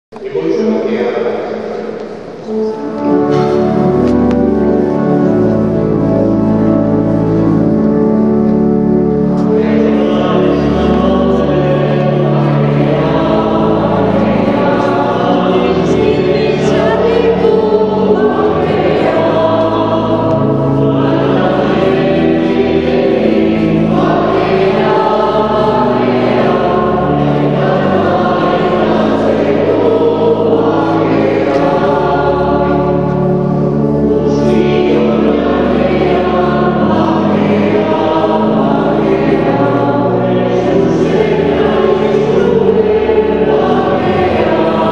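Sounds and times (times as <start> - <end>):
choir singing: 0.2 - 44.9.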